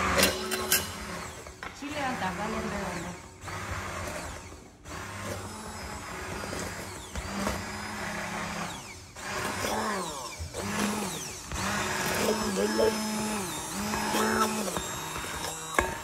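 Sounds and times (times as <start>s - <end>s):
immersion blender in glass bowl: 0.0s - 16.0s.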